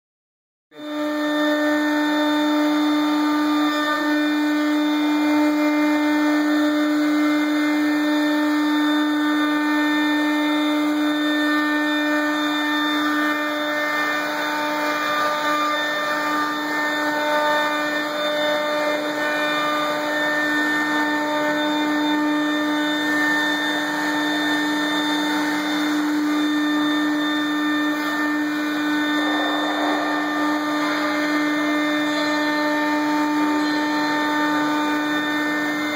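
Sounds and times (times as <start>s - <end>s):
cutter hissing through board: 0.8s - 35.9s
router spindle whine: 0.8s - 35.9s.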